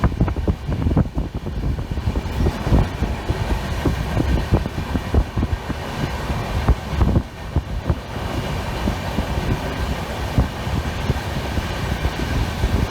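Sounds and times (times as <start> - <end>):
train rumbling on track: 0.0 - 12.9.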